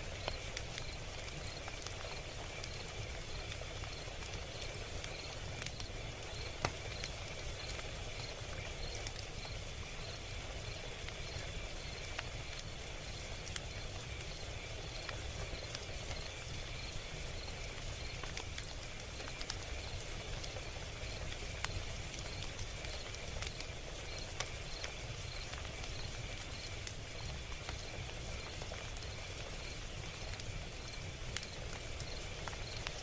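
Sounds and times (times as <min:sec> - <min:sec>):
log fire crackling: 0:00.0 - 0:33.0.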